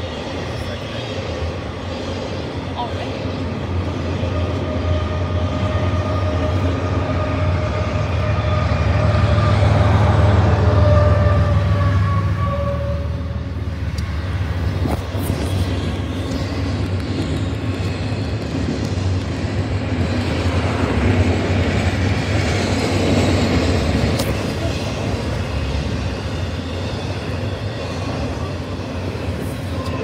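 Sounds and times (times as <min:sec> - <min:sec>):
freight train rumbling past: 0:00.0 - 0:30.0.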